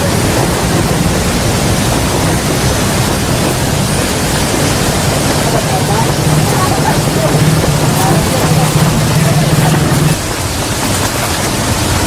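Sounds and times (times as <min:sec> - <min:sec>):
strong wind and rain: 0:00.0 - 0:12.0
wind buffeting microphone: 0:00.0 - 0:12.0.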